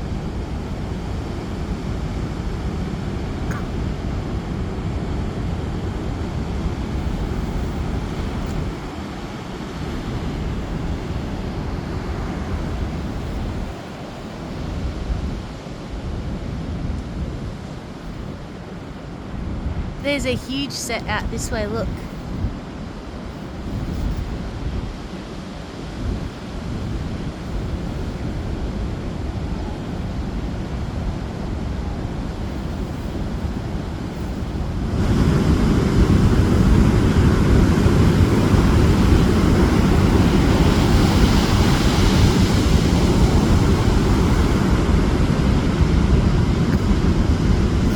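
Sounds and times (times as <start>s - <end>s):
heavy ocean surf breaking: 0.0s - 47.9s
wind buffeting microphone: 0.0s - 47.9s.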